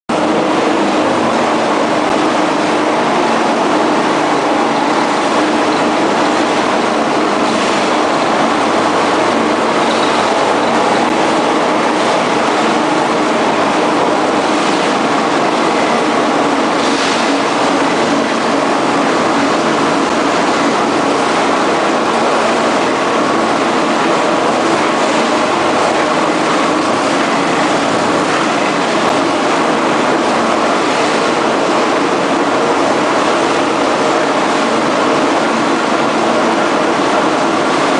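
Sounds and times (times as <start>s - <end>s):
production line machinery humming: 0.1s - 37.9s.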